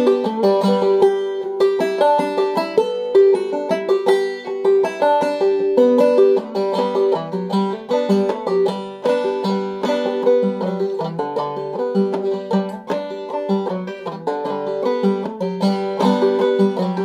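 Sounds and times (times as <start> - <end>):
banjo playing reel: 0.0 - 17.0.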